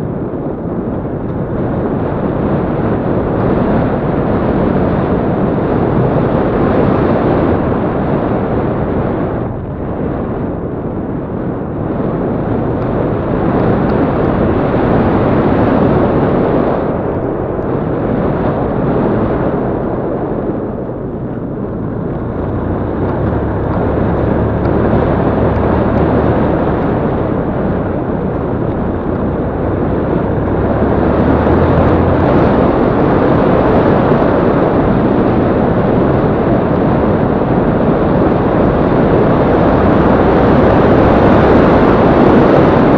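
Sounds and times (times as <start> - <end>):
motorcycle engine running: 0.0 - 42.9
wind on microphone: 0.0 - 42.9.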